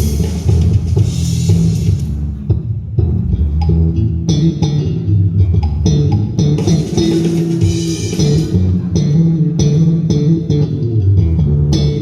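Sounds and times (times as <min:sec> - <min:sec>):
bass guitar solo: 0:00.0 - 0:12.0.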